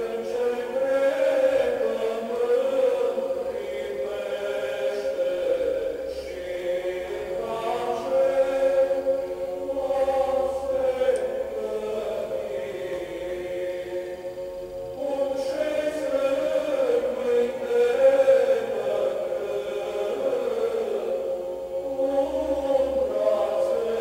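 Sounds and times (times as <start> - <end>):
choral chant: 0.0 - 24.0
steady drone note: 0.0 - 24.0.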